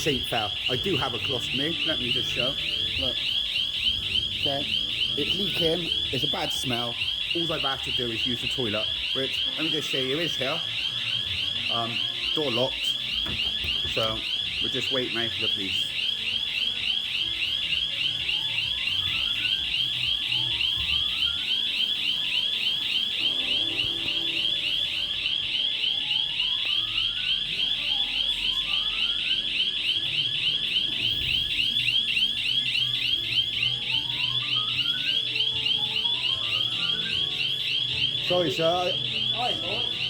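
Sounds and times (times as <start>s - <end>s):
warbling electronic alarm: 0.0s - 40.0s.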